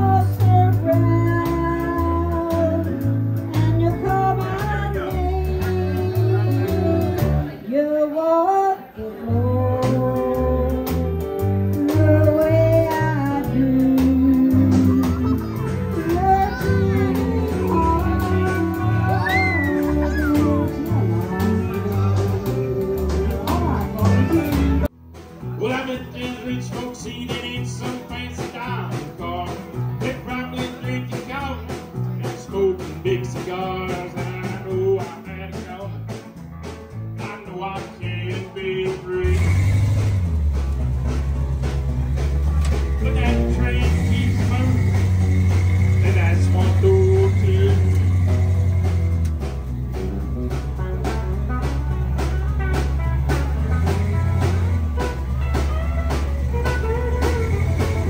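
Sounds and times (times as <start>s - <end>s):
drums with steady beat: 0.0s - 7.5s, 9.8s - 58.0s
bass guitar: 0.0s - 58.0s
keyboard: 0.0s - 58.0s
electric guitars: 8.8s - 37.2s, 38.4s - 58.0s.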